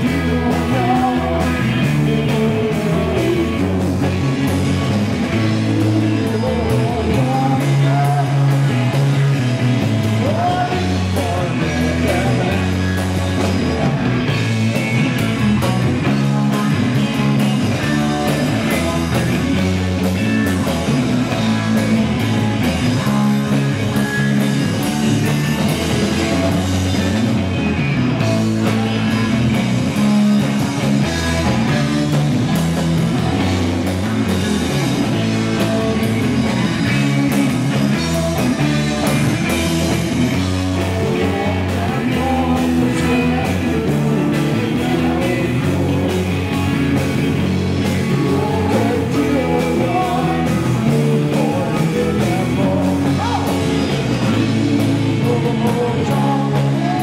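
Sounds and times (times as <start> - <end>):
drums: 0.0 - 57.0
electric bass: 0.0 - 57.0
electric guitars: 0.0 - 57.0.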